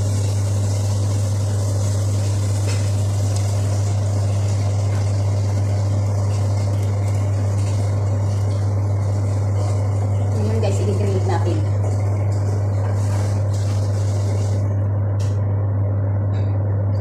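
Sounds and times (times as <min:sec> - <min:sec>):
appliance motor hum: 0:00.0 - 0:17.0.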